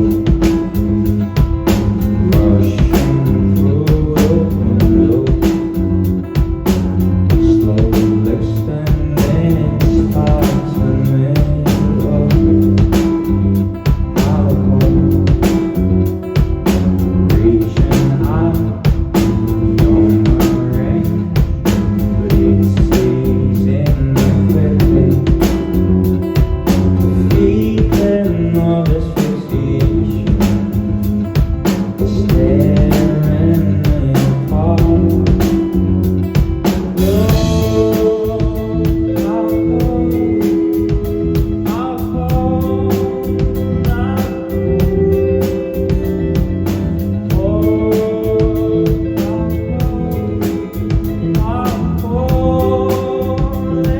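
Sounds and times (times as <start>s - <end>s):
drum kit beat: 0.0s - 53.9s
guitars and bass: 0.0s - 53.9s
person singing: 0.0s - 53.9s.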